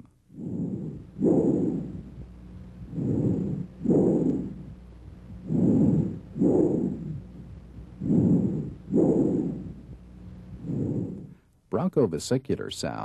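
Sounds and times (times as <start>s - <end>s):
bronchial breath sounds: 0.0s - 11.5s.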